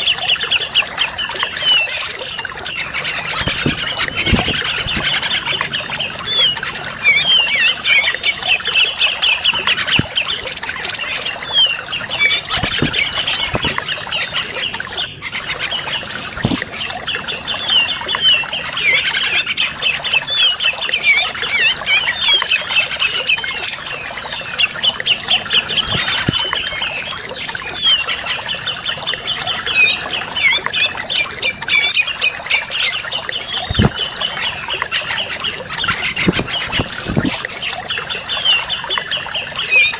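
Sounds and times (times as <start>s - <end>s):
birds chattering harshly: 0.0s - 39.9s.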